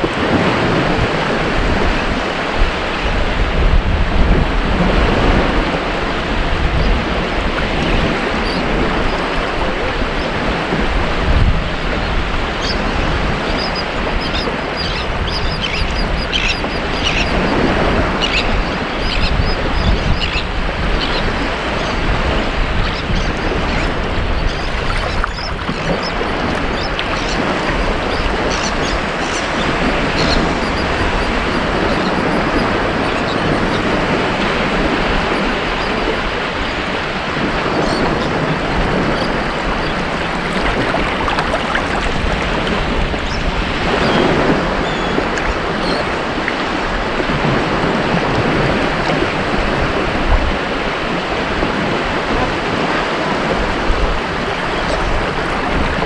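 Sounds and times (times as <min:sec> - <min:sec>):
ocean surf on beach: 0:00.0 - 0:15.2, 0:20.5 - 0:56.0.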